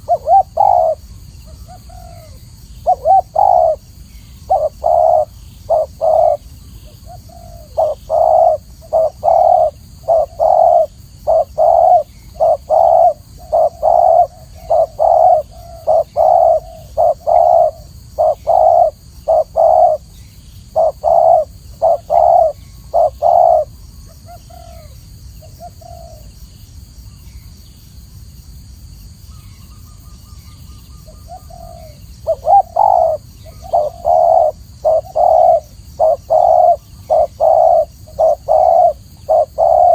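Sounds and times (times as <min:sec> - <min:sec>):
dove cooing: 0:00.0 - 0:25.0, 0:25.6 - 0:26.3, 0:30.9 - 0:39.9.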